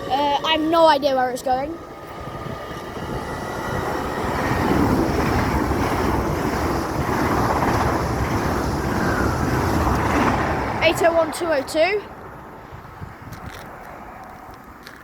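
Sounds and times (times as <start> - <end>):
electric train passing: 0.0 - 14.5.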